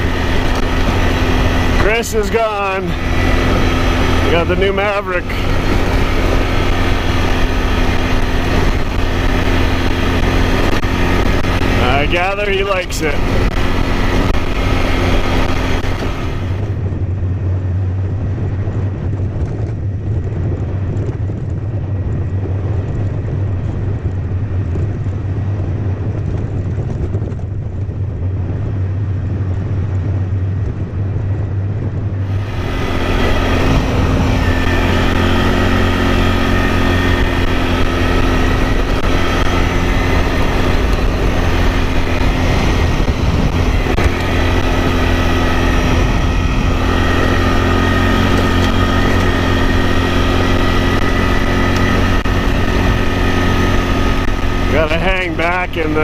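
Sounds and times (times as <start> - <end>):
atv engine drone: 0.0 - 56.0.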